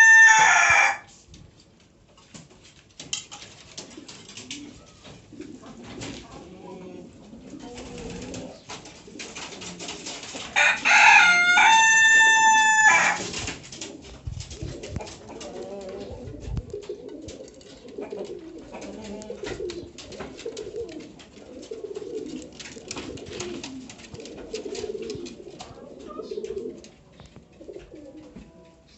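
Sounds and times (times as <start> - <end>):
pigeons cooing: 3.8 - 28.9.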